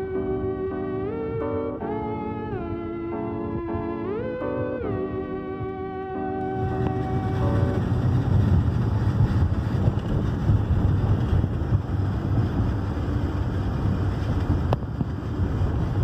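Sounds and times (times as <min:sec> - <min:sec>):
van engine and tyre rumble: 0:00.0 - 0:16.0.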